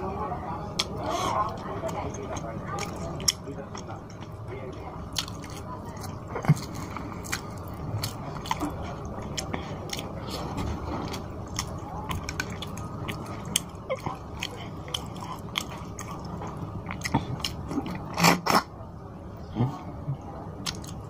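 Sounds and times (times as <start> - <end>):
wet chewing with mouth clicks: 0.8 - 18.6, 20.6 - 21.0.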